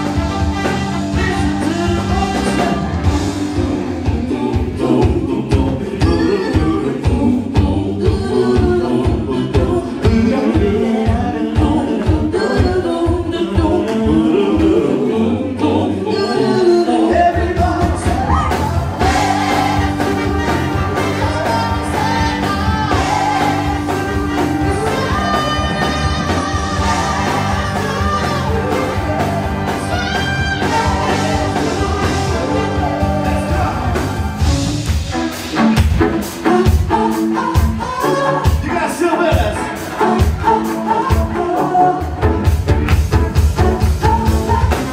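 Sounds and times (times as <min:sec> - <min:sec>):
live band playing: 0:00.0 - 0:44.9.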